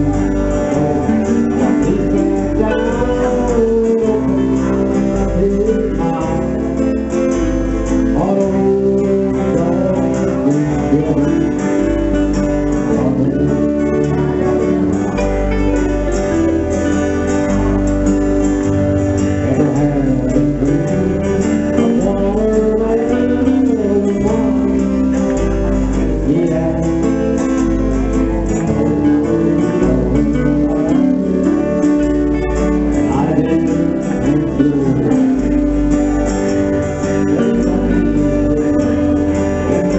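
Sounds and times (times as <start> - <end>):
acoustic guitars strumming: 0.0 - 39.9
electric bass line: 0.0 - 39.9
electric guitar: 0.0 - 39.9.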